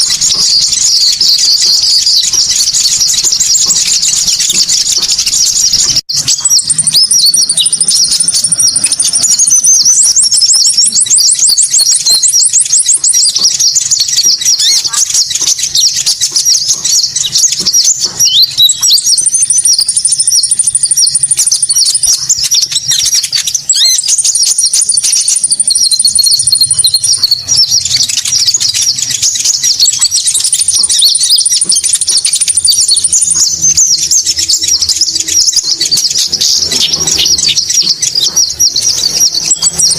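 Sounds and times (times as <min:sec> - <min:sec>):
songbirds chirping and twittering: 0:00.0 - 0:39.9
thin high bird trill: 0:00.0 - 0:39.9.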